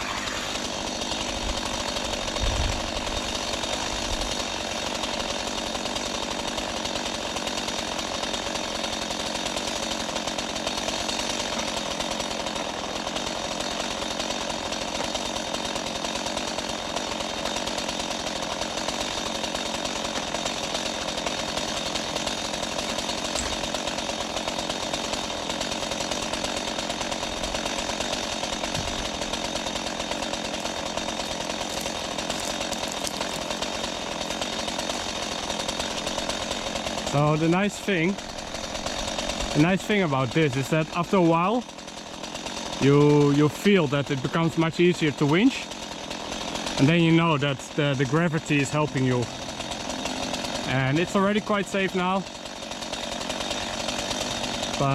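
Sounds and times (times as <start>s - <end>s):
small engine running a winch: 0.0s - 54.9s.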